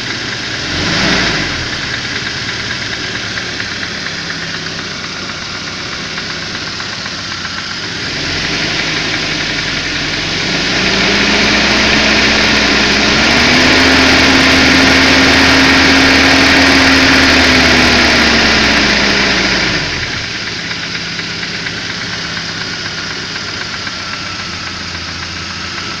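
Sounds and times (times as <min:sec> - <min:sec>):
car engine idling and revving: 0:00.0 - 0:26.0
engine knocking: 0:00.0 - 0:26.0.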